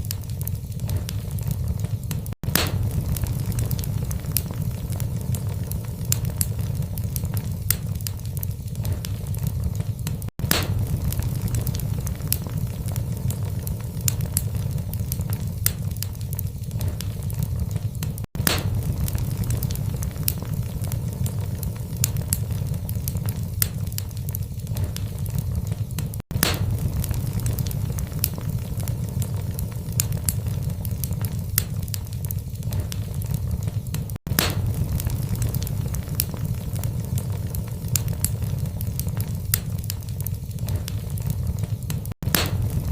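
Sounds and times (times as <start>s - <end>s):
logs crackling in fireplace: 0.0s - 42.9s
low fire rumble: 0.0s - 42.9s
sharp fire pops: 0.0s - 42.9s.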